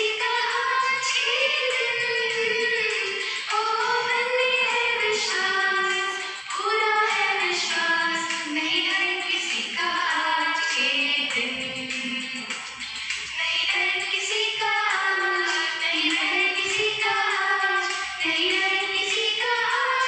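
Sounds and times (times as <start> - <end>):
woman singing: 0.0 - 20.0.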